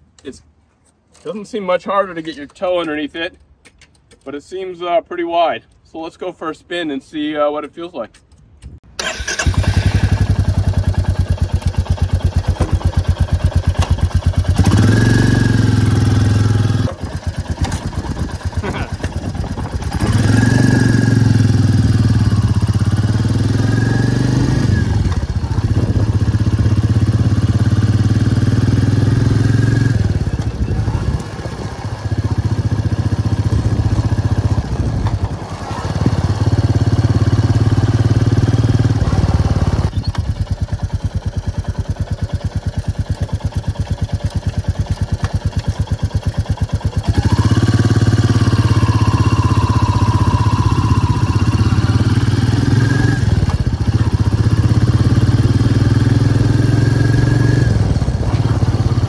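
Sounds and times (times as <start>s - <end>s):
motorcycle engine: 9.0s - 59.0s.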